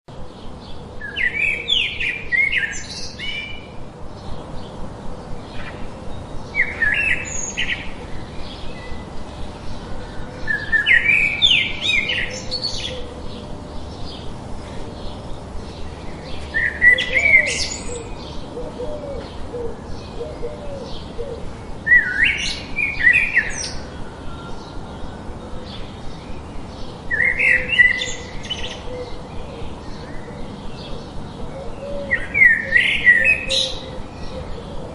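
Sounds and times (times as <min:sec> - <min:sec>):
songbird singing high phrase: 0:00.5 - 0:34.7.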